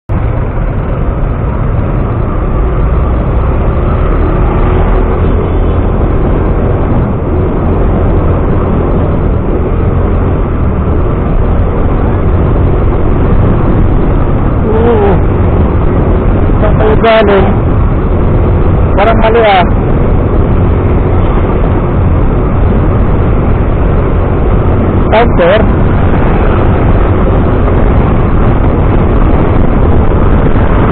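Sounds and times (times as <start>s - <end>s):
vehicle engine rumble: 0.1s - 30.9s
wind and tyre noise: 0.1s - 30.9s.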